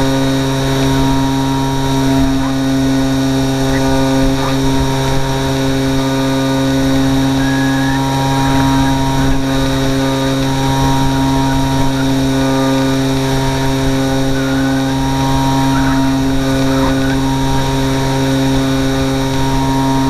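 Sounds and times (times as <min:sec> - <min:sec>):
electric motor and propeller whine: 0:00.0 - 0:20.0
wind buffeting microphone: 0:00.0 - 0:20.0.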